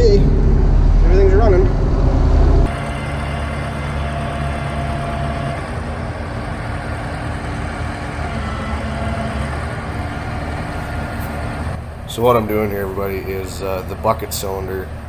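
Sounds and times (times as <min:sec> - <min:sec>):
excavator engines running: 0:00.0 - 0:15.0.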